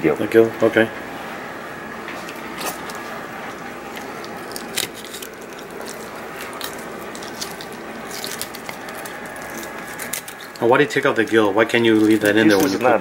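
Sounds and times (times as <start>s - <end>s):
knife crunching through fish gills: 2.2s - 12.9s.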